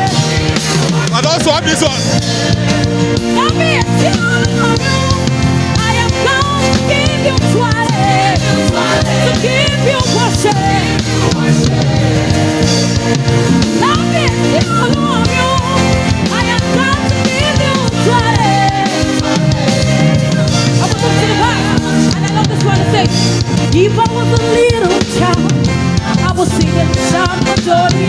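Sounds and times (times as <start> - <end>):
live worship band music: 0.0 - 28.0.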